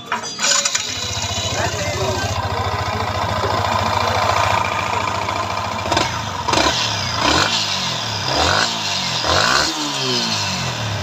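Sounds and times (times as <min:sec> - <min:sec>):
motorcycle engine idling and revving: 0:00.0 - 0:11.0.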